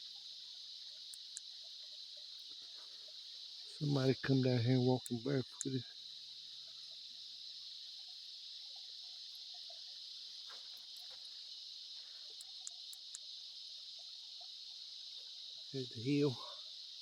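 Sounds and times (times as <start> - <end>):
faint ticks: 0.0 - 17.0
insects buzzing: 0.0 - 17.0.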